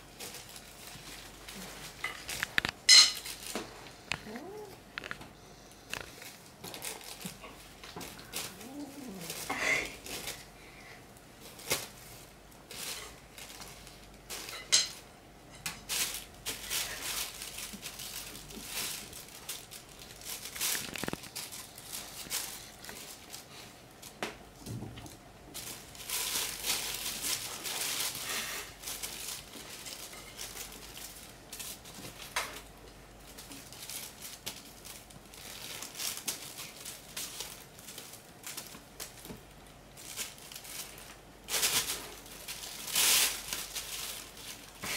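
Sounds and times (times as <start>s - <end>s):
plastic bag crinkling: 0.0s - 15.1s, 15.8s - 24.2s, 25.1s - 44.9s.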